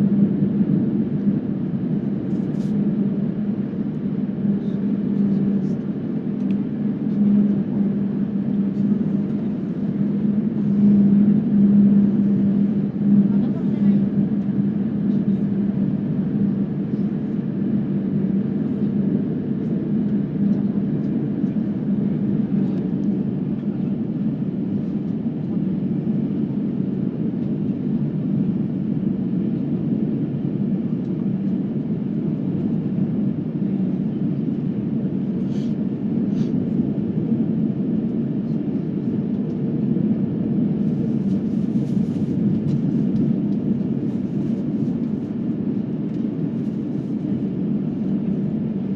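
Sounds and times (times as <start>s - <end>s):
jet engine cabin drone: 0.0s - 48.9s.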